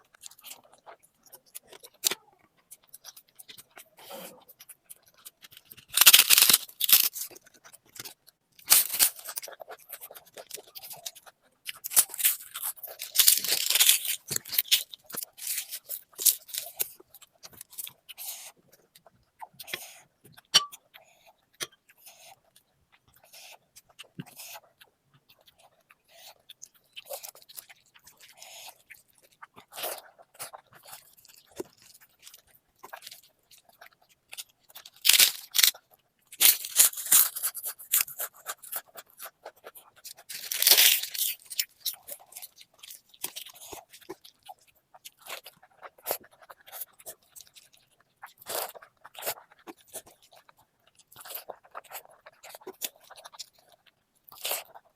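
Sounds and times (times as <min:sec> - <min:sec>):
person chewing and crunching food: 0:00.0 - 0:54.9.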